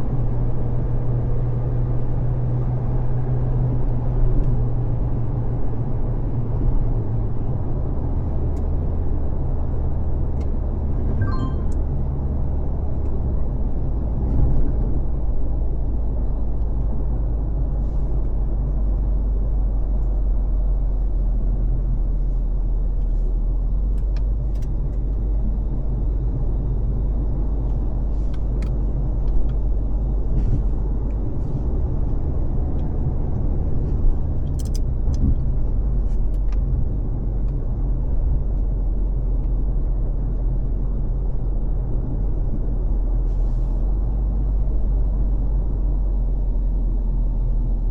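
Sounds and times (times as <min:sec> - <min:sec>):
car tyres and engine rumble: 0:00.0 - 0:47.9.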